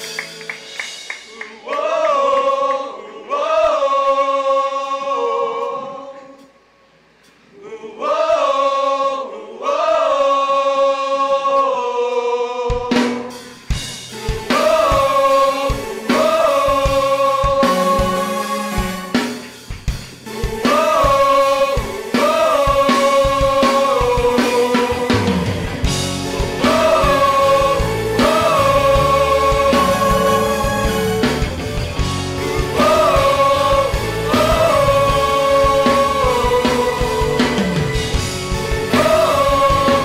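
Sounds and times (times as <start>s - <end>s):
choir singing: 1.3s - 6.6s, 7.4s - 19.5s, 20.2s - 40.0s.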